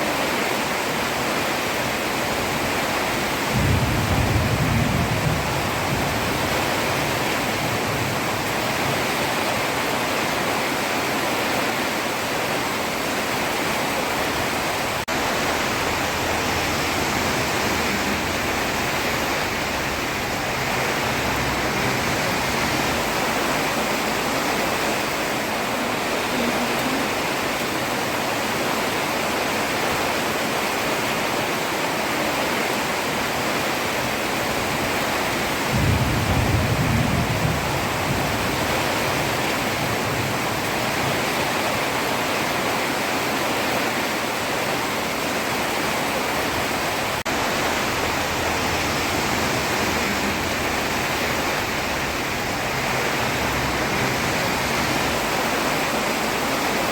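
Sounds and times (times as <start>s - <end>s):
heavy rain on a road: 0.0s - 56.9s.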